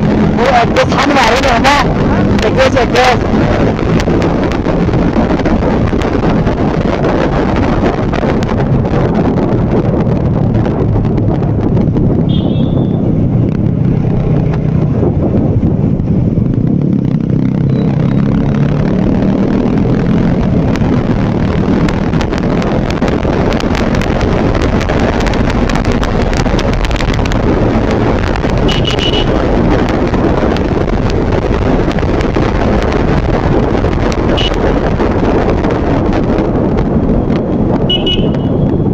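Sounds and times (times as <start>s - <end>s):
motorcycle engine hum: 0.0s - 38.9s
wind buffeting microphone: 0.0s - 38.9s.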